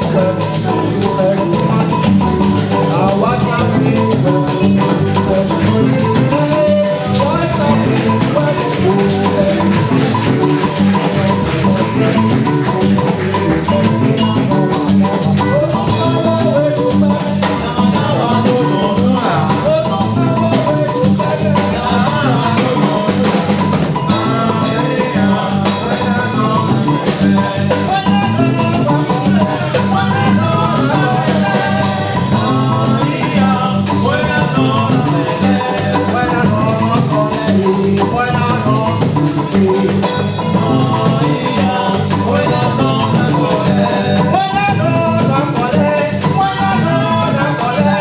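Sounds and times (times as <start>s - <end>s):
music with drums and steady beat: 0.0s - 48.0s.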